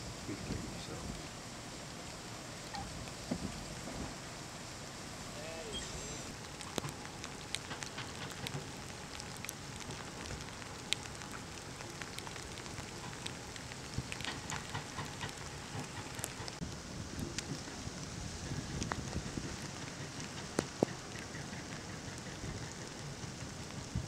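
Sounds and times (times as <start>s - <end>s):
raindrops ticking close by: 0.0s - 5.4s, 6.3s - 24.0s
steady rain falling: 0.0s - 24.0s.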